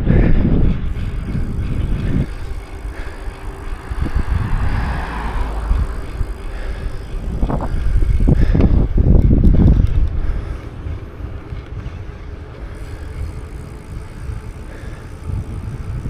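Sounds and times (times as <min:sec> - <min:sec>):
bicycle road noise: 0:00.0 - 0:16.0
wind rushing over microphone: 0:00.0 - 0:16.0.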